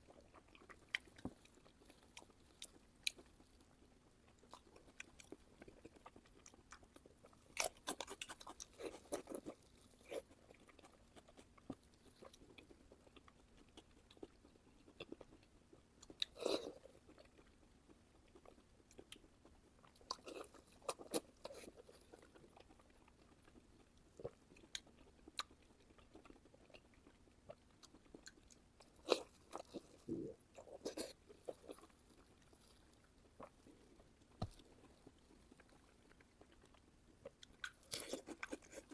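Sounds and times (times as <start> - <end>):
person chewing pork belly: 0.0 - 38.9.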